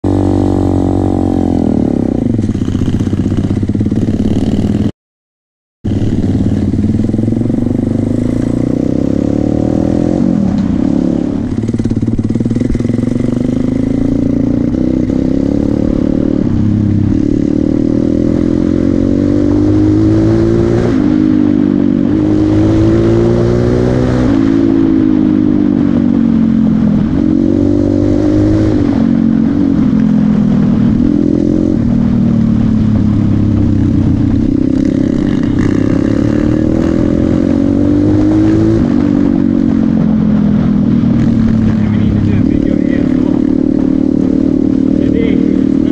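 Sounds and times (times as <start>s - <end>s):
motorbike engine accelerating: 5.9s - 45.9s.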